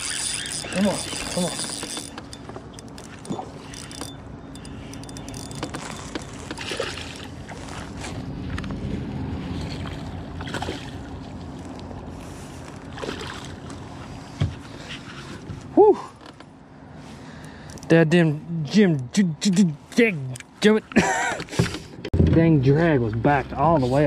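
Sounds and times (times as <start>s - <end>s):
low rumble of water and wind: 0.0s - 24.0s.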